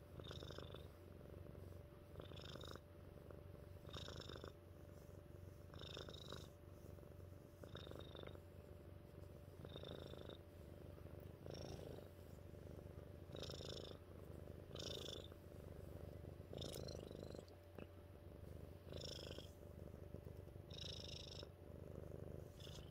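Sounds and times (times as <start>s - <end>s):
cat purring: 0.0s - 22.9s.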